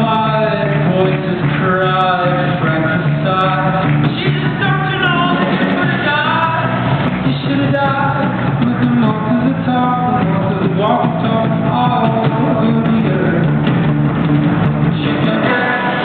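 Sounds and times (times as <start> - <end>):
live concert music: 0.0 - 16.0.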